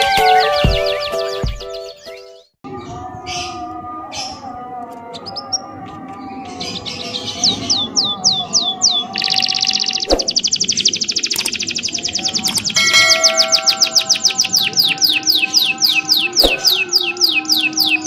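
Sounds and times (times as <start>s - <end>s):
bird song: 0.0s - 18.0s.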